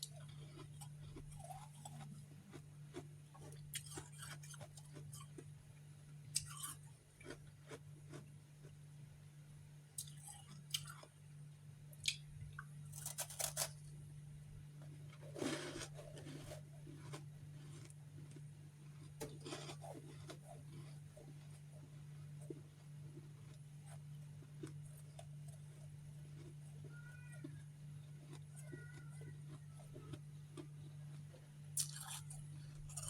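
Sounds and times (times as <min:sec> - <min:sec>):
crunching and chewing ice: 0:00.0 - 0:05.6, 0:06.3 - 0:08.8, 0:10.0 - 0:11.2, 0:12.0 - 0:14.0, 0:14.8 - 0:33.0.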